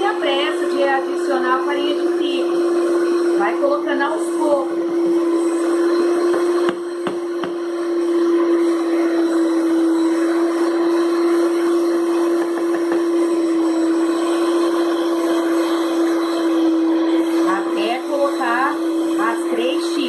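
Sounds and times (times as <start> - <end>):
stand mixer running: 0.0 - 20.0.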